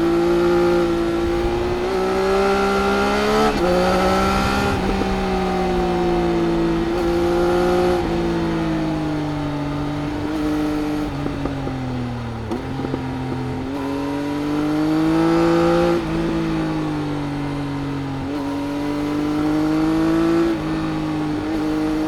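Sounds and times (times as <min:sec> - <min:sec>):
wind rush: 0:00.0 - 0:19.5
motorcycle engine under way: 0:00.0 - 0:22.0.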